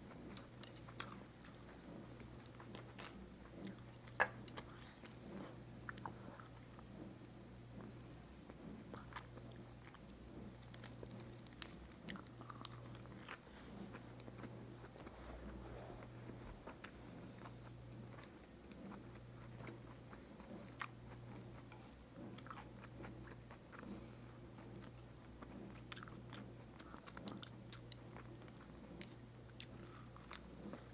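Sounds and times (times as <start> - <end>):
close-up chewing with crunches: 0.0 - 30.9
steady low hum: 0.0 - 30.9.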